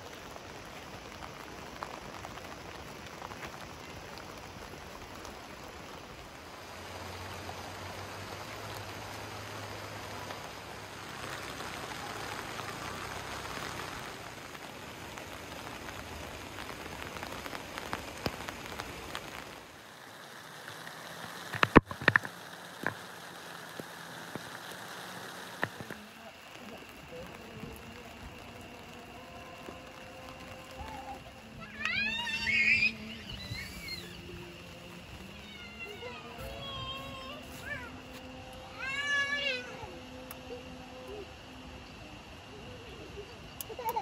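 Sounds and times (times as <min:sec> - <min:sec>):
rain pattering: 0:00.0 - 0:44.0.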